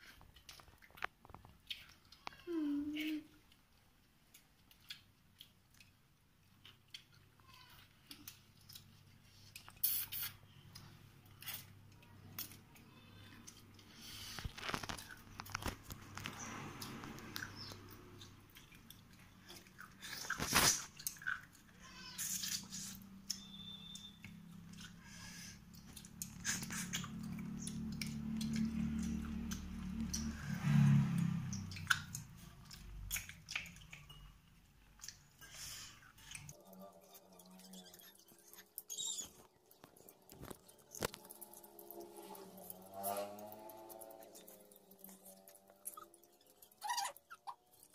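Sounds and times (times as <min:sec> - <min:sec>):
close chewing: 0:00.0 - 0:47.9.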